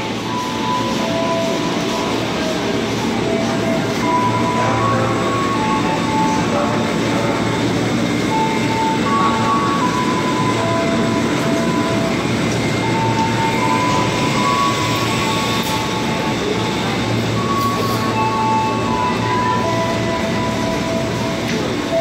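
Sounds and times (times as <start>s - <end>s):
faint high shifting tones: 0.0s - 22.0s
train rumbling along rails: 0.0s - 22.0s.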